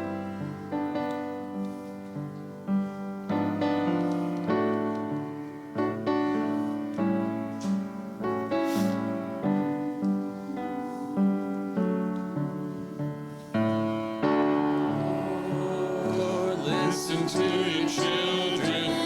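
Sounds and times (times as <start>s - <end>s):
piano playing hymn tune: 0.0s - 19.0s.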